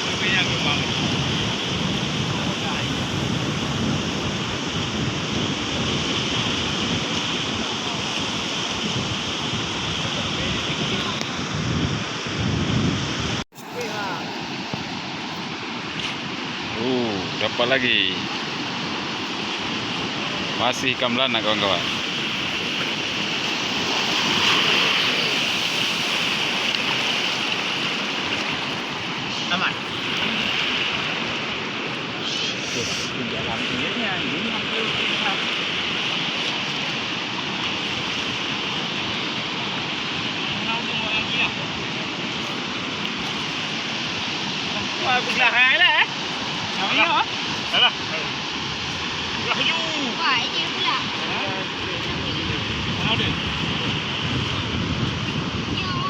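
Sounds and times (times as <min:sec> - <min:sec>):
waves and surf rushing: 0:00.0 - 0:56.0.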